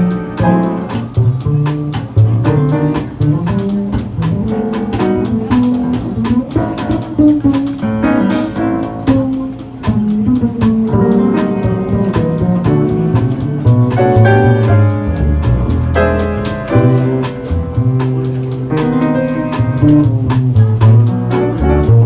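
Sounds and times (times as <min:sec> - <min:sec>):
bass line: 0:00.0 - 0:22.0
drum and cymbal hits: 0:00.0 - 0:22.0
small jazz band playing: 0:00.0 - 0:22.0.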